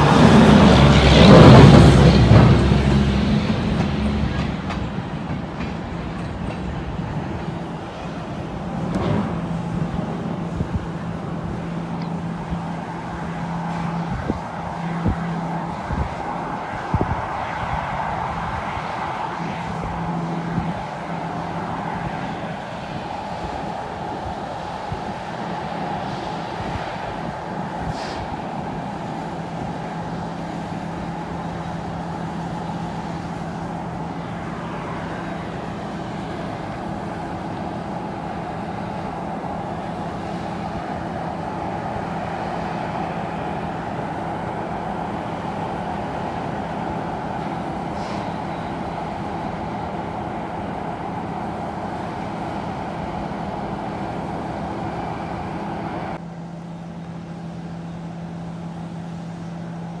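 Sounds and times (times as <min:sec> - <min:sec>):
outdoor rumble: 0:00.0 - 1:00.0.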